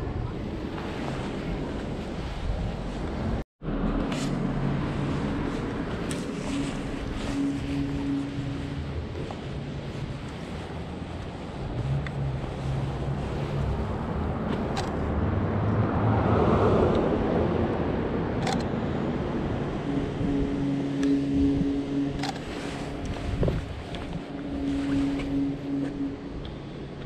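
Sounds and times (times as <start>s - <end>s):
car passing: 0.0s - 27.0s
low engine hum: 0.0s - 27.0s.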